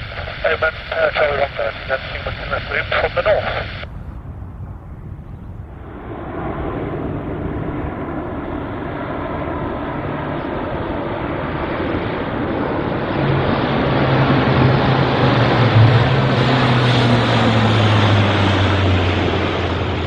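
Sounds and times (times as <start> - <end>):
turboprop plane flying low: 0.0 - 20.0.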